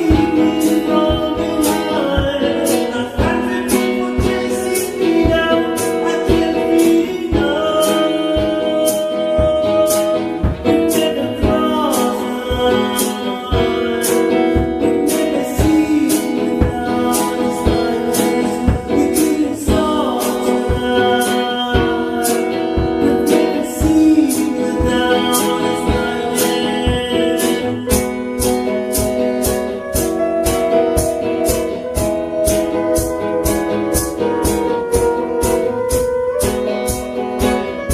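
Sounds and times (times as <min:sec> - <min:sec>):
percussion beat: 0:00.0 - 0:37.9
person singing: 0:00.0 - 0:37.9
strummed acoustic guitar: 0:00.0 - 0:37.9.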